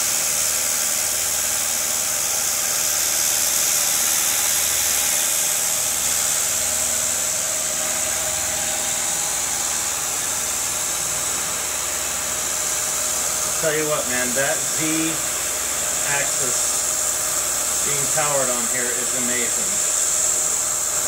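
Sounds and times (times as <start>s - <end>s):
milling machine hiss: 0.0s - 21.0s
motor hum: 0.0s - 21.0s.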